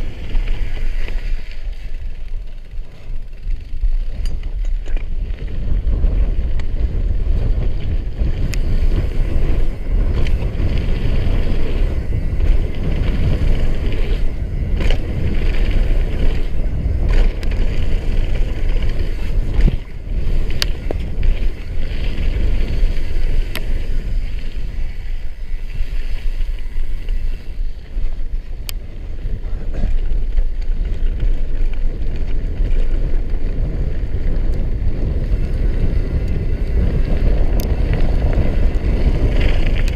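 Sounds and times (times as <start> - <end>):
bike rattling: 0.0 - 39.9
tyres rumbling on gravel: 0.0 - 39.9
wind buffeting microphone: 0.0 - 39.9.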